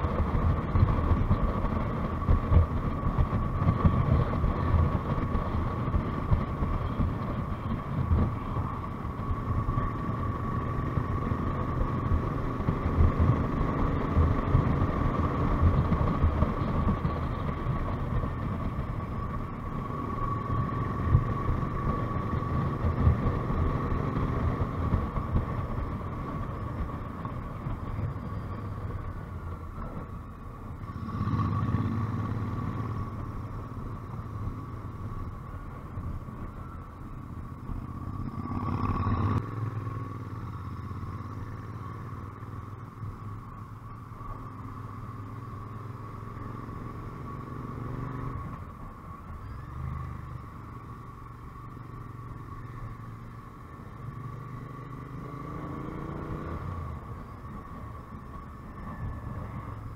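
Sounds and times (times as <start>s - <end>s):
motorcycle engine cruising: 0.0s - 59.9s
road and wind rumble: 0.0s - 59.9s.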